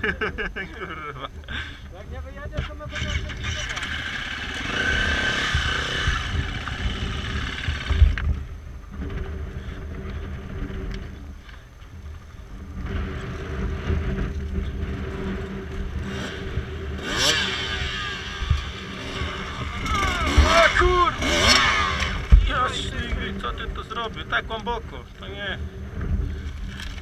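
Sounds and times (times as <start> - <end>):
motorcycle engine idling: 1.4 - 17.1, 17.7 - 27.0
dirt bike revving: 1.7 - 11.2, 12.7 - 27.0.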